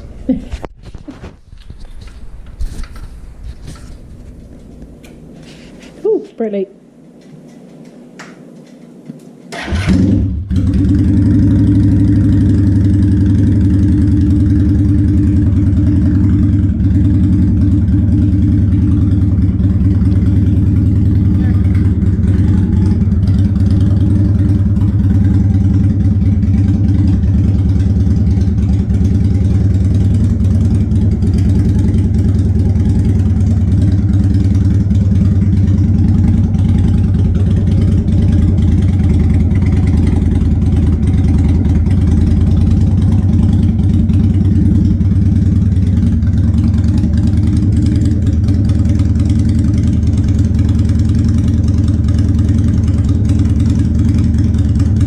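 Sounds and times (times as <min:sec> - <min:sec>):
motorcycle engine idling: 0:08.7 - 0:55.0.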